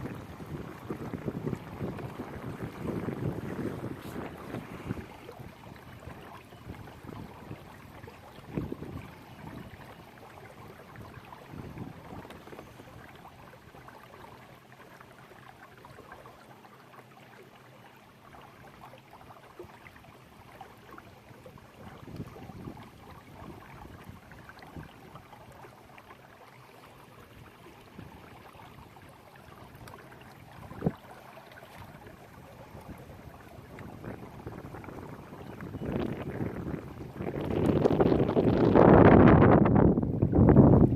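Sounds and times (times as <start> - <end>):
water lapping against kayak hull: 0.0 - 40.9.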